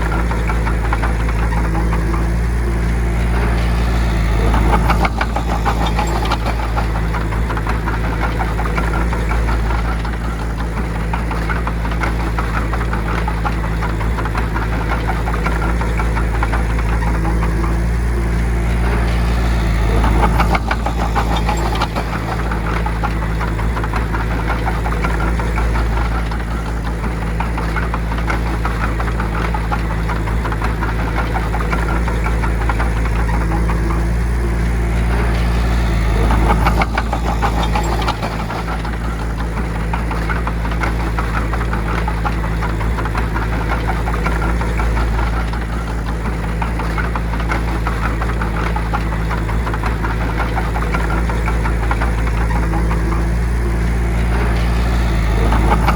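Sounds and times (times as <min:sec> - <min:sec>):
bulldozer diesel engine knocking: 0:00.0 - 0:55.9.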